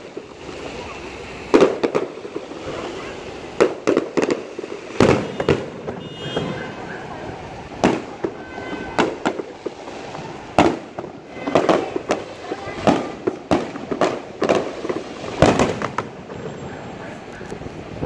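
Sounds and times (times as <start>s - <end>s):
fireworks bangs echoing: 0.0s - 18.0s.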